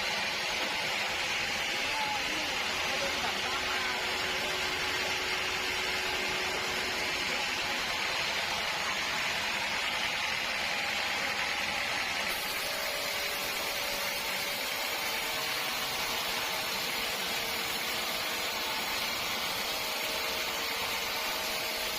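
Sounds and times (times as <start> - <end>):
sawmill machinery running: 0.0 - 21.9.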